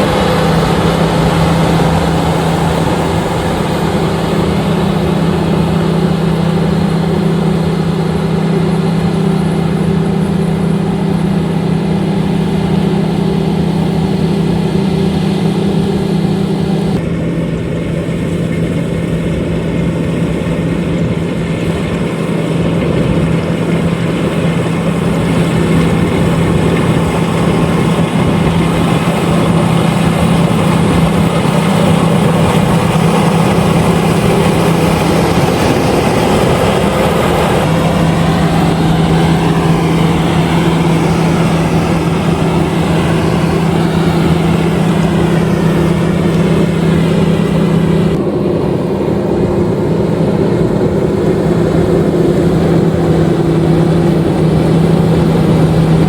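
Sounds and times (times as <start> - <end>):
combine harvester humming: 0.0 - 56.0.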